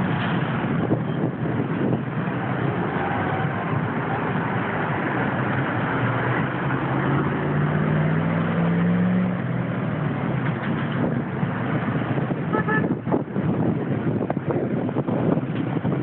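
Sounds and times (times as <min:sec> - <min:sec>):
heavy diesel truck engine: 0:00.0 - 0:16.0
road traffic: 0:00.0 - 0:16.0.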